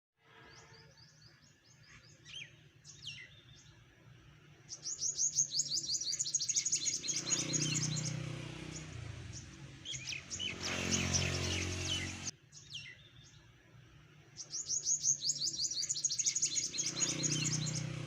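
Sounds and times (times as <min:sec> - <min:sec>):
small birds chirping: 0:00.5 - 0:18.0.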